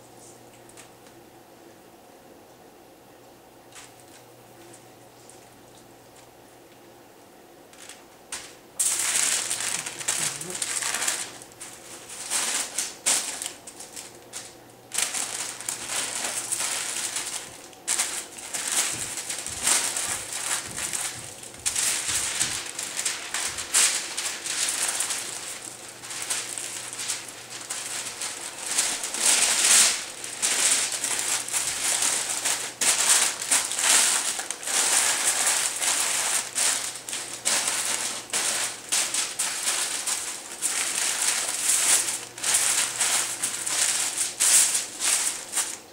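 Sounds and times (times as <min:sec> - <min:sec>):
cling film and foil crinkling: 0:07.7 - 0:45.9.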